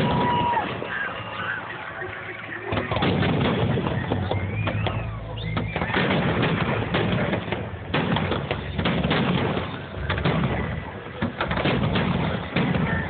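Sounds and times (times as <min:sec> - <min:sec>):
fireworks popping and banging: 0:00.0 - 0:13.0.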